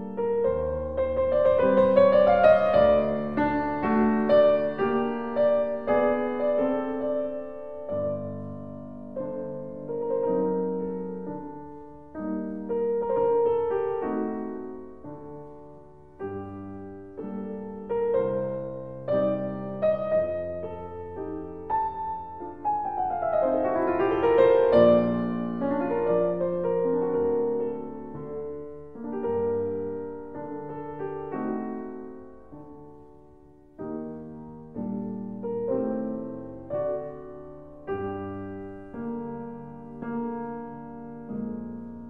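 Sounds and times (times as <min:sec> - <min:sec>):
slow piano music: 0:00.0 - 0:42.0.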